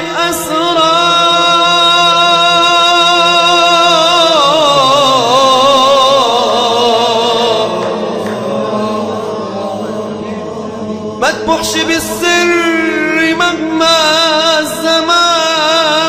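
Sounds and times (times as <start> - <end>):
person singing devotional chant: 0.0 - 16.0.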